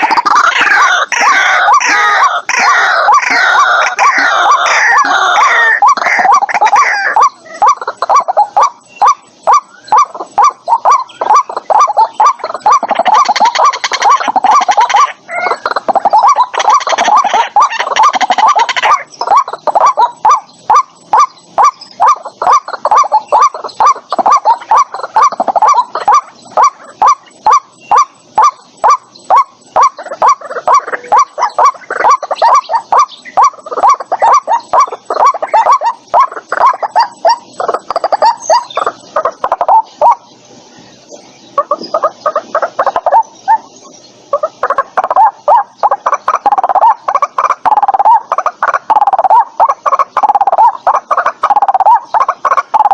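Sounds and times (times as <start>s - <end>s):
waterhen croaking calls: 0.0s - 52.9s.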